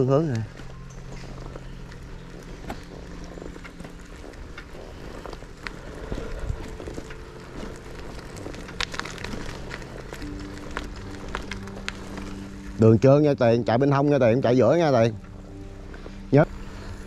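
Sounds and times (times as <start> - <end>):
scattered crackles and clicks: 0.0 - 17.0.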